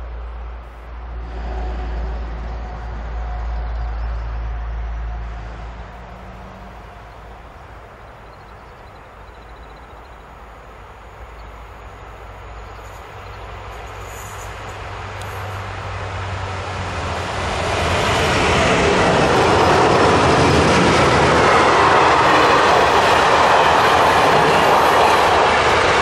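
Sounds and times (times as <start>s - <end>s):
freight train rumble and rail noise: 0.0s - 26.0s.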